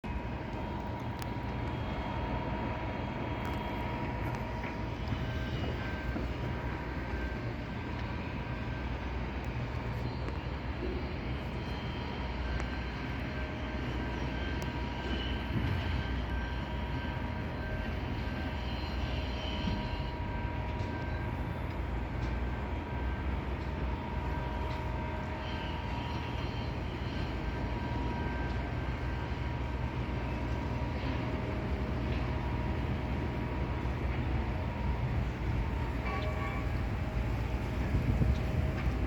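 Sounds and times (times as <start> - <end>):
constant whine: 0.0 - 39.0
low mechanical rumble: 0.0 - 39.0.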